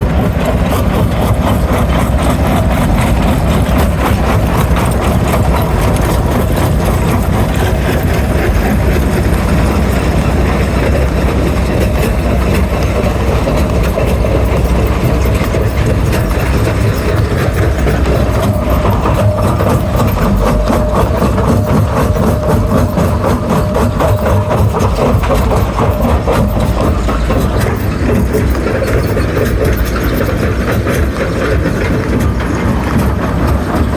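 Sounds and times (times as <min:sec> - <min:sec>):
stone crusher drone: 0:00.0 - 0:33.9
rock crackling and rattling: 0:00.1 - 0:33.9.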